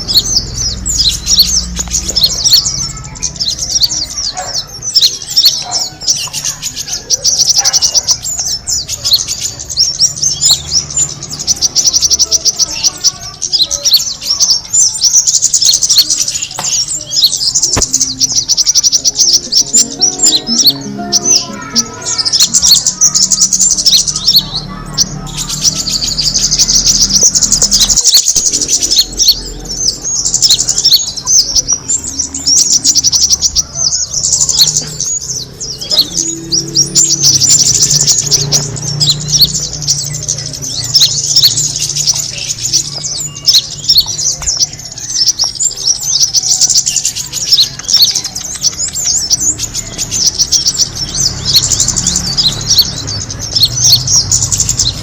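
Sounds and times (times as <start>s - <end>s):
songbird twittering: 0.0s - 55.0s.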